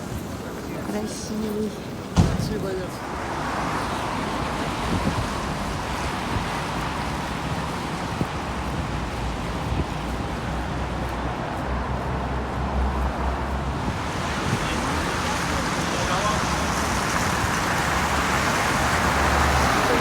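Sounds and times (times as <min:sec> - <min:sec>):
vehicle road noise: 0:00.0 - 0:20.0.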